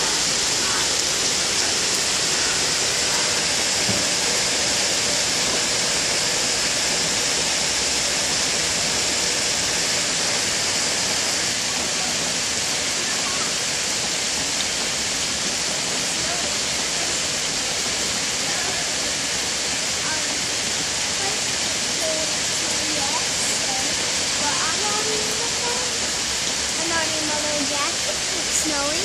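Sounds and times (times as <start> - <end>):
steady rain pouring: 0.0 - 29.0.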